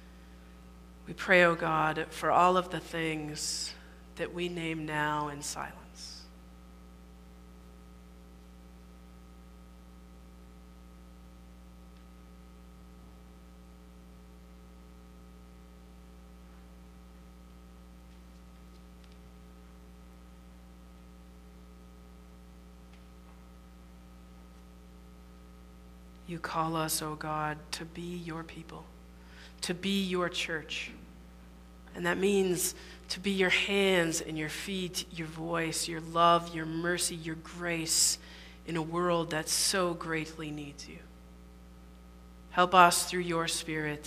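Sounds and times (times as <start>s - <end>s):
mains hum: 0.0s - 44.0s.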